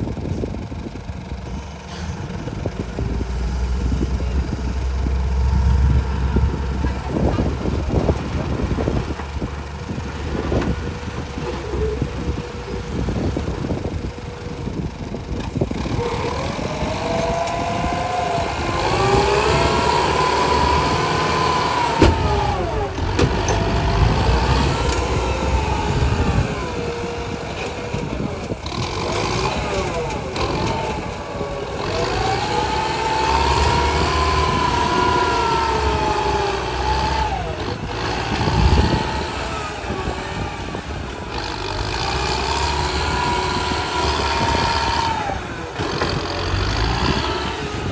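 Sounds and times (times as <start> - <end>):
truck engine revving under load: 0.0 - 47.9.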